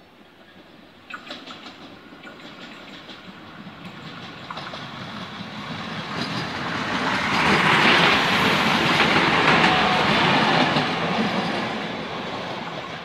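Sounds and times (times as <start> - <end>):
train passing: 0.0 - 13.0
wheels clacking over track: 1.1 - 13.0.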